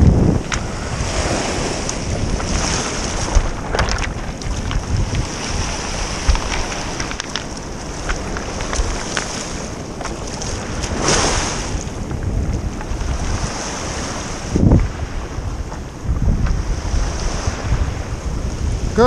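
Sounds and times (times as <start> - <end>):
waves washing over pebbles: 0.0 - 19.0
wind buffeting microphone: 0.0 - 19.0.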